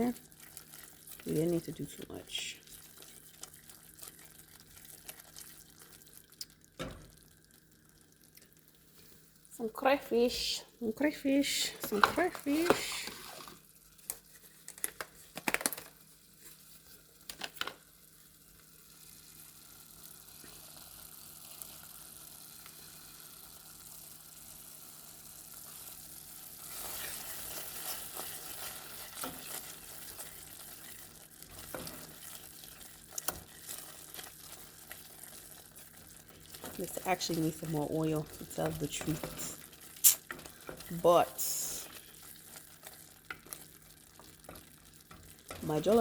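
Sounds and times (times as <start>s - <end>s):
stew sizzling in a pot: 0.0s - 46.0s.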